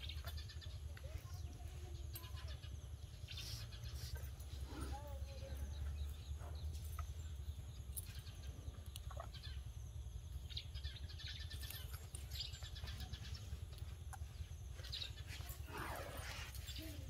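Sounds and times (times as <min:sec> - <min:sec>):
faint birds chirping: 0:00.0 - 0:17.0
steady low rumble: 0:00.0 - 0:17.0.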